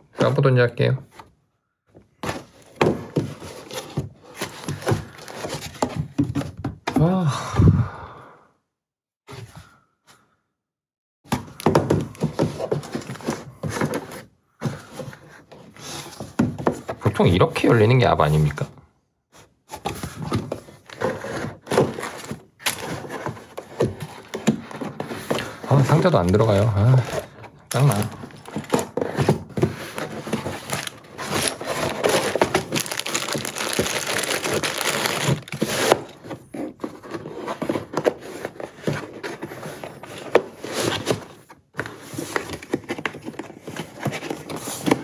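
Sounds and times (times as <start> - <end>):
plastic blocks and cardboard handled: 0.1 - 7.3, 11.3 - 18.7, 19.3 - 45.0.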